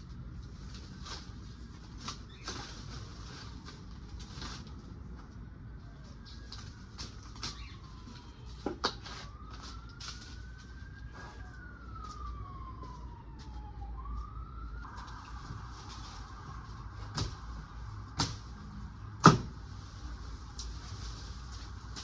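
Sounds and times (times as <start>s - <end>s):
faint siren wailing: 0.0s - 22.0s.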